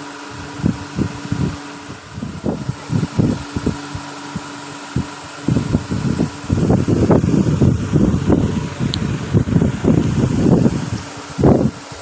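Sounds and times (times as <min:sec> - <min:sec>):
steady hum: 0:00.0 - 0:12.0
soft low thumps and rumbles: 0:00.4 - 0:12.0.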